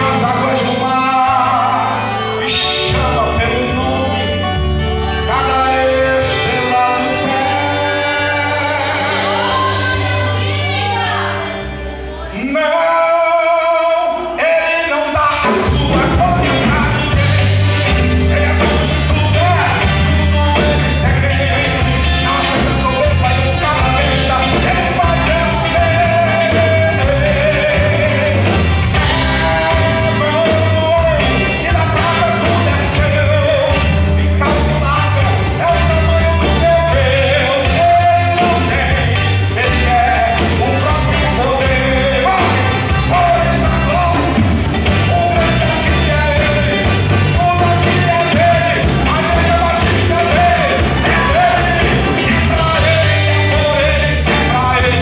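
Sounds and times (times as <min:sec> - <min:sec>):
person singing: 0:00.0 - 0:55.0
rock band playing: 0:00.0 - 0:55.0.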